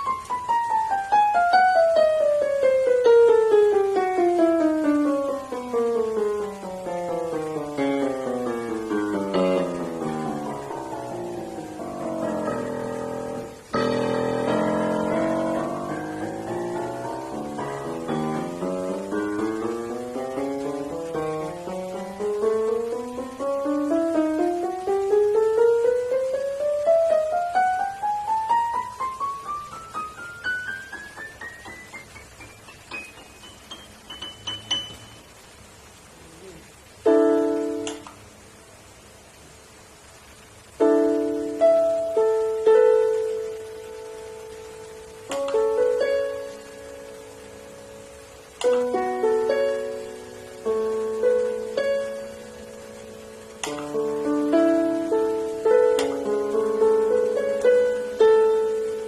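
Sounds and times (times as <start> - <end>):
descending keyboard piano notes: 0.0 - 38.2, 40.6 - 59.0.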